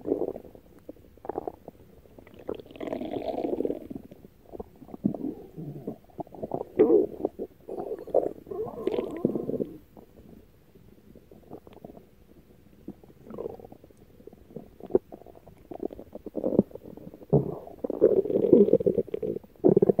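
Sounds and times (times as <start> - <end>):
stomach growling: 0.0 - 10.4, 11.1 - 20.0.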